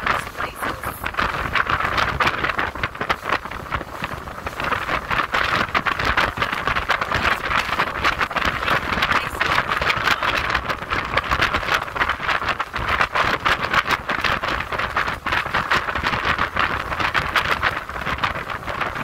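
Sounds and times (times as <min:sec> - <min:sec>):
rushing wind and water: 0:00.0 - 0:19.0
wind buffeting microphone: 0:00.0 - 0:19.0.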